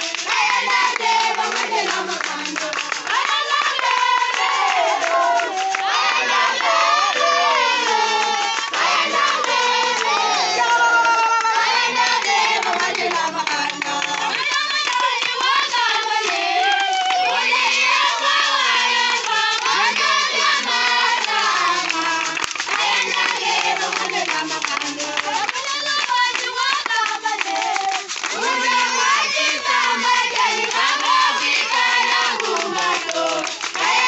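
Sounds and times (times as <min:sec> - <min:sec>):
crowd singing worship song: 0:00.0 - 0:34.0
hand clapping: 0:00.0 - 0:34.0.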